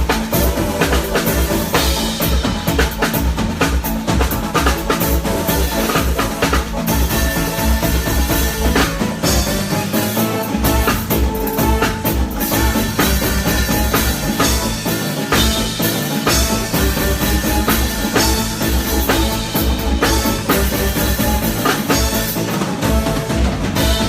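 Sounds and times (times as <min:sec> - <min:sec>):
bass drum beat: 0:00.0 - 0:24.0
live band playing: 0:00.0 - 0:24.0.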